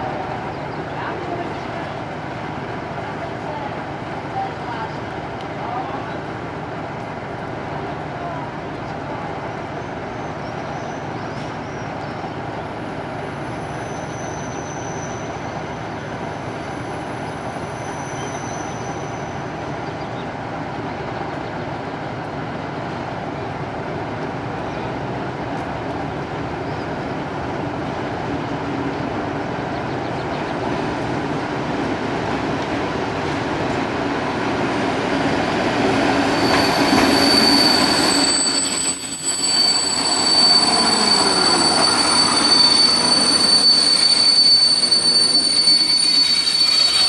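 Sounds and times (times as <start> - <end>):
train rolling on track: 0.0 - 47.0.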